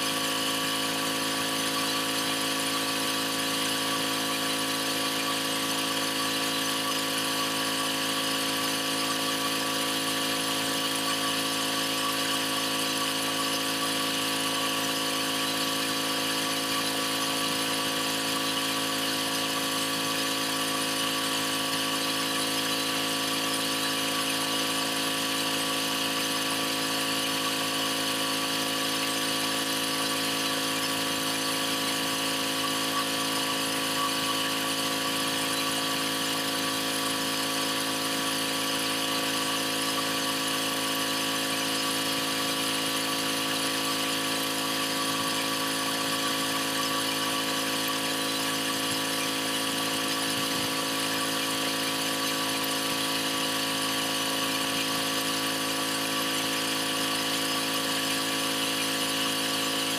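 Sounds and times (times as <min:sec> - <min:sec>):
high-pressure water spray hiss: 0:00.0 - 0:59.9
pressure washer engine drone: 0:00.0 - 0:59.9.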